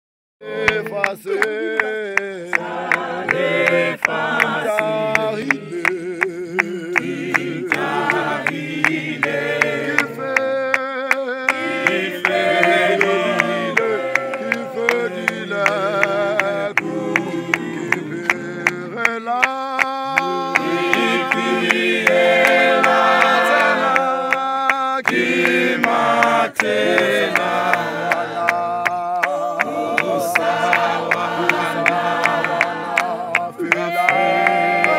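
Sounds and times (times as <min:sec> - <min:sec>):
choir singing a cappella: 0:00.4 - 0:34.9
hand claps: 0:00.6 - 0:34.9.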